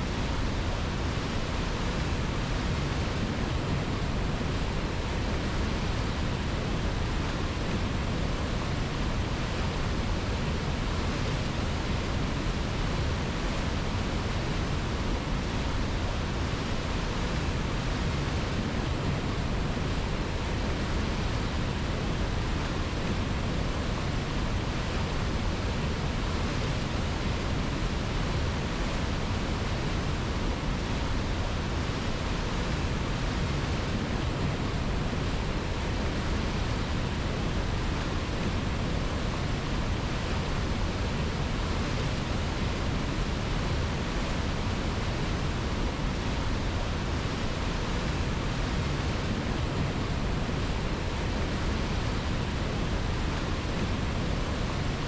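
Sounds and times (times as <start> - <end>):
river rushing: 0.1 - 55.0.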